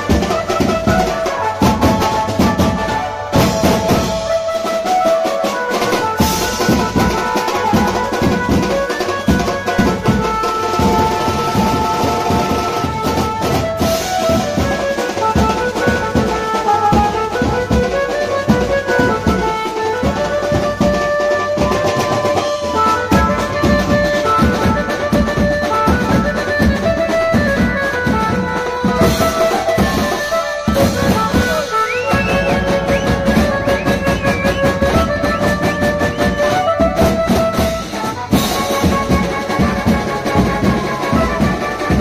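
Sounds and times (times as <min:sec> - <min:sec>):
band playing dance music: 0:00.0 - 0:42.0
driving drum beat: 0:00.0 - 0:42.0.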